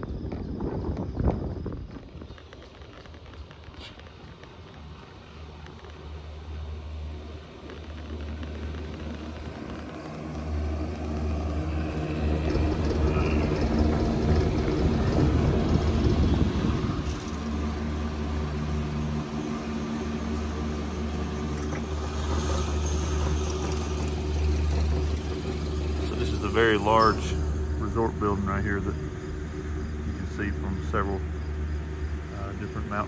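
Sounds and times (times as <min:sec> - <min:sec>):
chairlift low rumble: 0:00.0 - 0:33.0.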